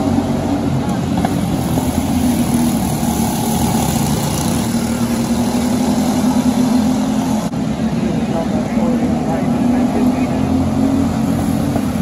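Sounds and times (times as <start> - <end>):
racing kart engines: 0.0 - 12.0.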